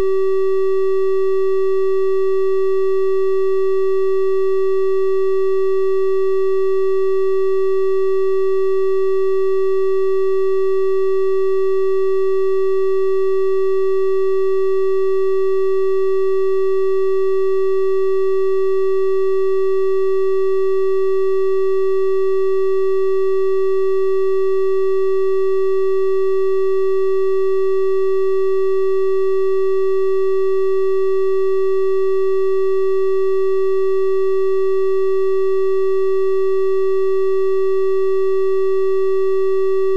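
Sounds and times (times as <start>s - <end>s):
triangle-wave test tone: 0.0s - 39.9s.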